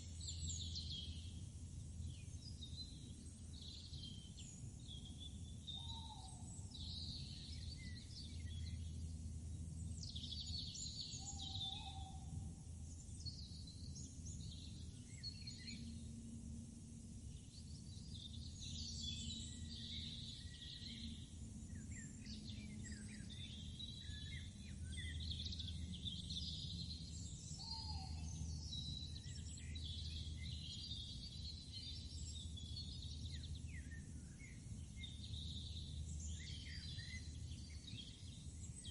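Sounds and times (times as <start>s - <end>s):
birds chirping and singing: 0.0s - 16.4s, 17.2s - 38.9s
low background rumble: 0.0s - 38.9s.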